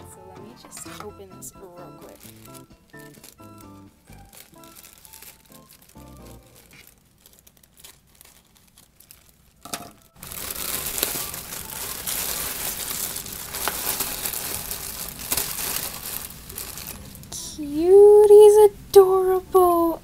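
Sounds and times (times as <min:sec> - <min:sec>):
plastic bag crinkling: 0:00.5 - 0:18.5.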